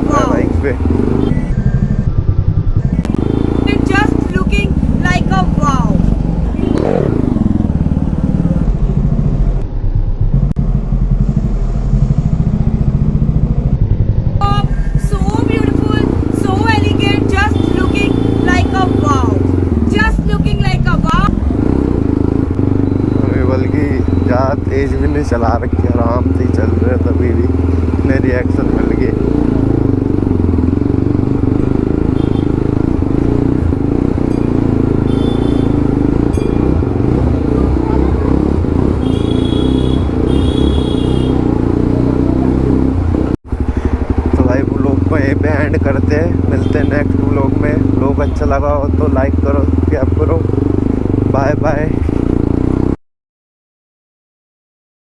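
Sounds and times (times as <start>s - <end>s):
motorcycle engine running low: 0.0s - 53.0s.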